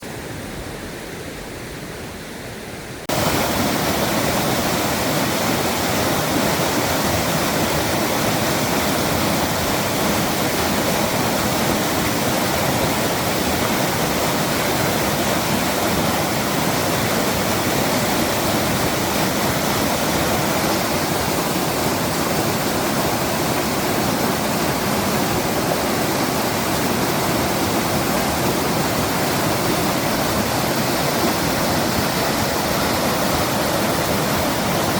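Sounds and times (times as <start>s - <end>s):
mountain stream rushing in flood: 0.0s - 34.9s.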